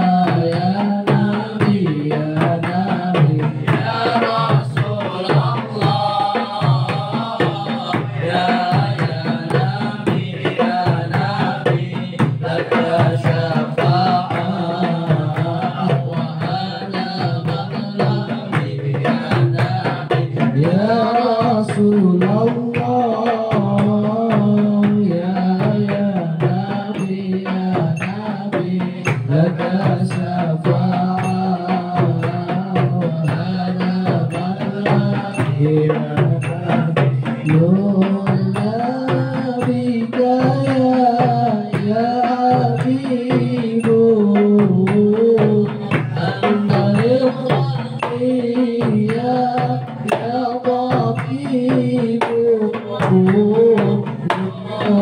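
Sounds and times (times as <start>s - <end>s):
frame drums beating: 0.0s - 55.0s
men chanting: 0.0s - 55.0s.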